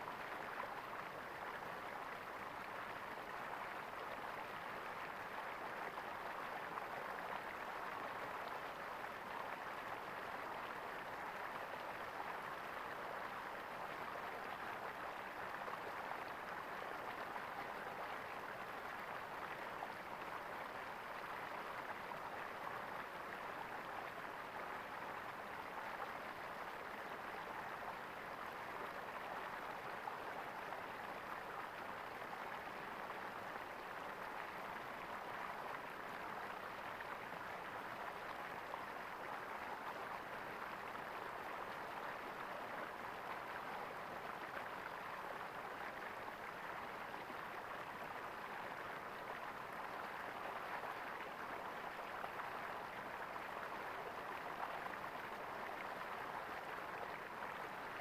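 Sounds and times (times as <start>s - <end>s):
running water gurgling: 0.0s - 58.0s.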